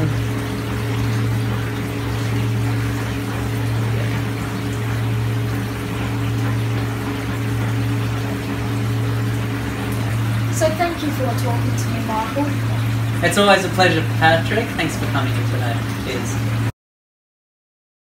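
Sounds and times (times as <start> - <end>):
running water hiss: 0.0 - 16.6
low machine hum: 0.0 - 16.7.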